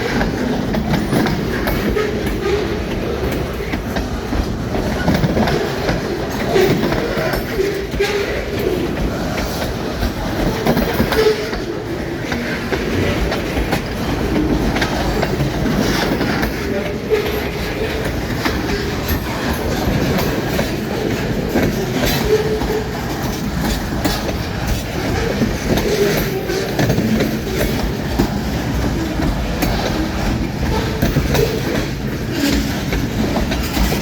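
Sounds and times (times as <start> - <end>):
train cars rumbling past: 0.0 - 34.0
wheels clicking over rail joints: 0.0 - 34.0.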